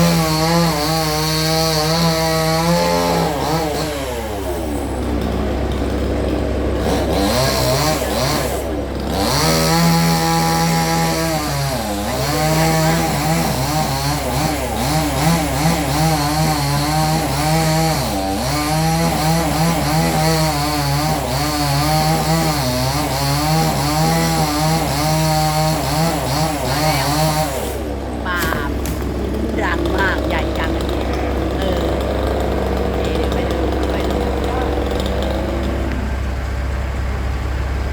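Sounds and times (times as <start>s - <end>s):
chainsaw cutting wood: 0.0s - 36.6s.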